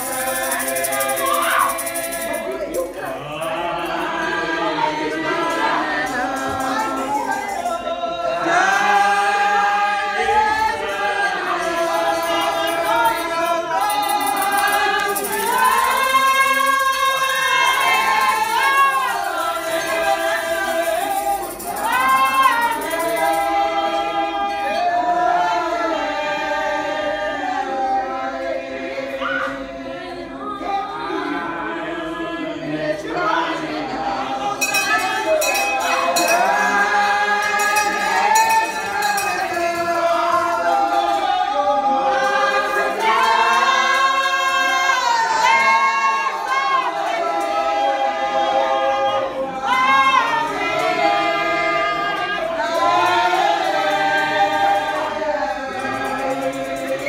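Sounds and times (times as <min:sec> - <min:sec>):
congregation singing: 0:00.0 - 0:57.0.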